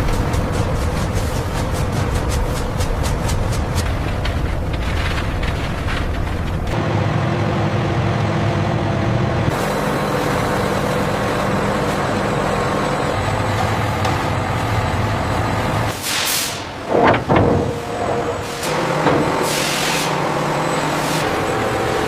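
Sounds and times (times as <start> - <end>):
factory machinery humming: 0.0 - 22.0.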